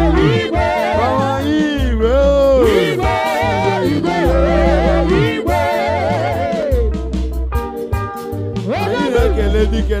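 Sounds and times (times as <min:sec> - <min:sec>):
person singing: 0:00.0 - 0:07.0, 0:08.6 - 0:10.0
heavy bass line: 0:00.0 - 0:10.0.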